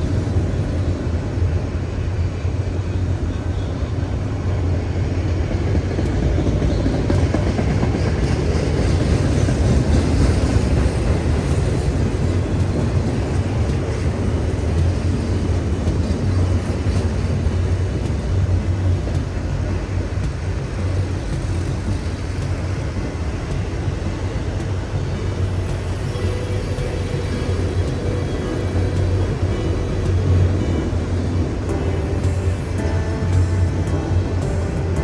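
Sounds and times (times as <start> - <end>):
freight train rumbling past: 0.0 - 35.0.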